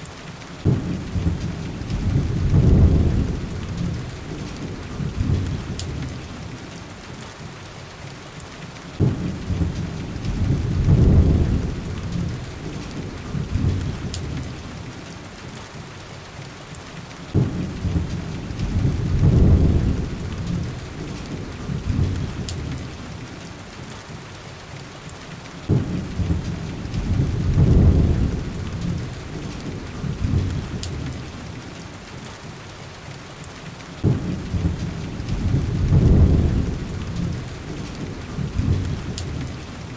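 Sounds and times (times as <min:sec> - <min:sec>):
heavy rain on glass: 0:00.0 - 0:39.9.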